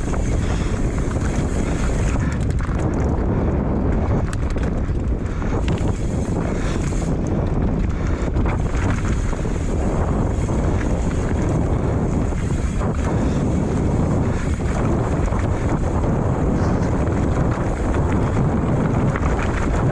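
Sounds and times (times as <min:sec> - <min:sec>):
bike tyres rumbling on trail: 0:00.0 - 0:19.9
faint clicks and rattles: 0:00.0 - 0:19.9
wind rushing over microphone: 0:00.0 - 0:19.9.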